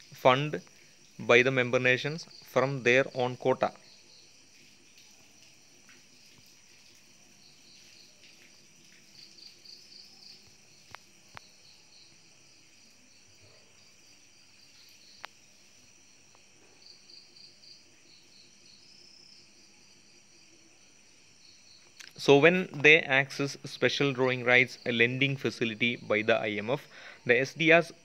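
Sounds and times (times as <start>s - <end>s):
faint insect chirping: 0.0s - 28.0s.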